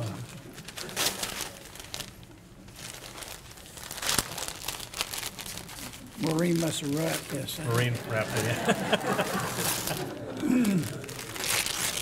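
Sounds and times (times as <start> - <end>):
gift wrapping crinkling and tearing: 0.0 - 12.0.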